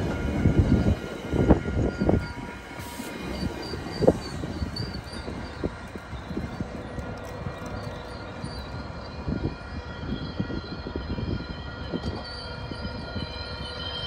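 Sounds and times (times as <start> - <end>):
high brake whine: 0.0 - 14.0
train mechanical drone: 0.0 - 14.0.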